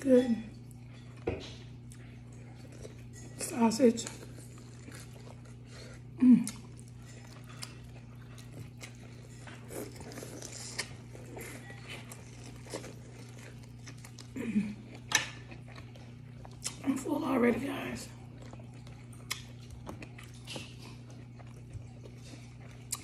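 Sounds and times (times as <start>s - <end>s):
steady low hum: 0.0s - 23.0s
biting and chewing food: 0.5s - 23.0s.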